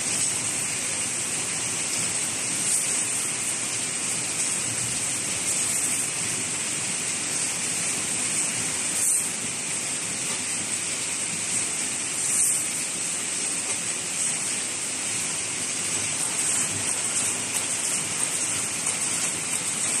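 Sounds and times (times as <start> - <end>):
welding machine hissing: 0.0 - 20.0.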